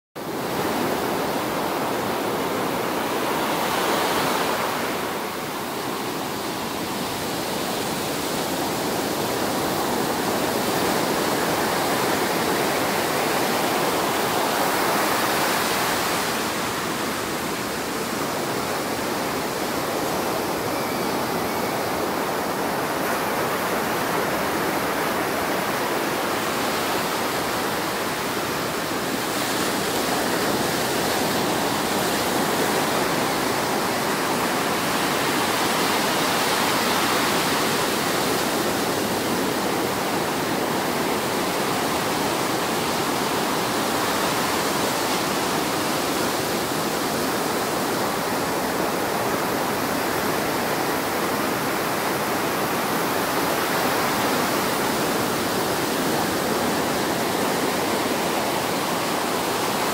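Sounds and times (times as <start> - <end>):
ocean surf breaking on beach: 0.2 - 59.9.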